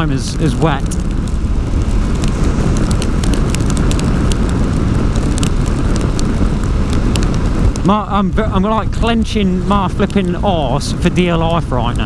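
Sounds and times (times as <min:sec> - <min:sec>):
raindrops ticking on microphone: 0:00.0 - 0:12.0
wind rushing over microphone: 0:00.0 - 0:12.0.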